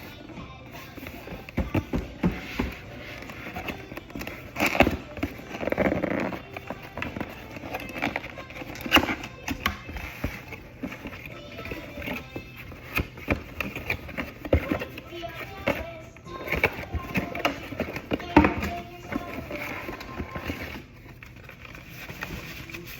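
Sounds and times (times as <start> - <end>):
faint background music from tv: 0.0 - 22.9
voices from a tv: 0.0 - 22.9.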